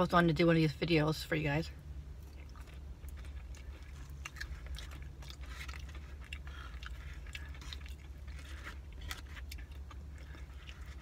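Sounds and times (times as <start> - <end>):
steady low hum: 0.0 - 11.0
light crunches of chewing: 2.2 - 11.0.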